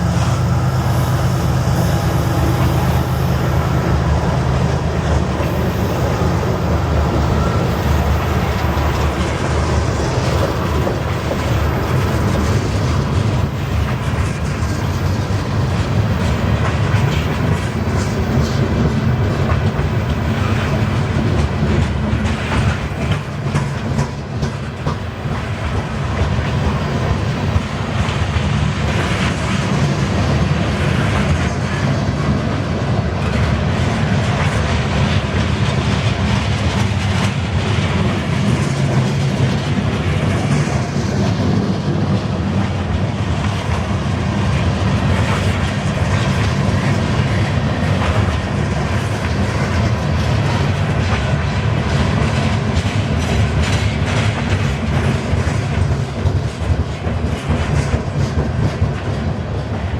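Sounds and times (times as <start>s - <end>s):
train wheels clacking over rail joints: 0.0s - 59.9s.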